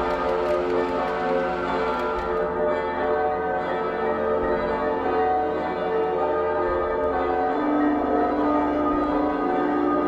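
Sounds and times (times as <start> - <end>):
church bells pealing: 0.0 - 10.0.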